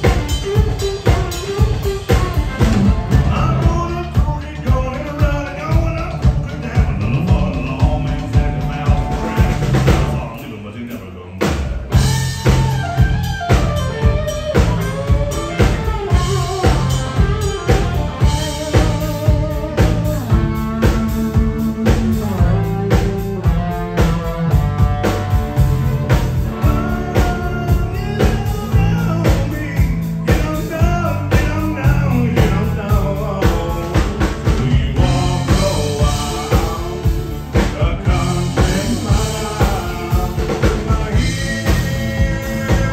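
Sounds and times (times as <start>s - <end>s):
country band playing: 0.0s - 42.9s.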